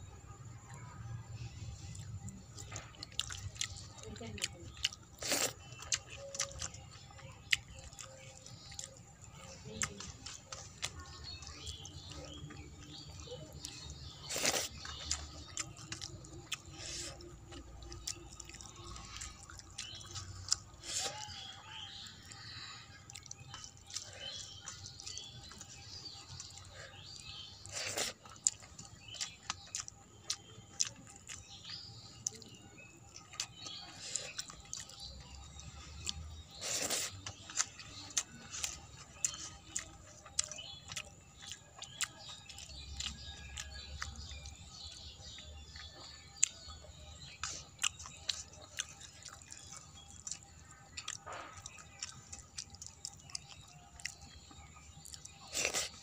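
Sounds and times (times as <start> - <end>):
wet chewing: 0.5 - 56.0.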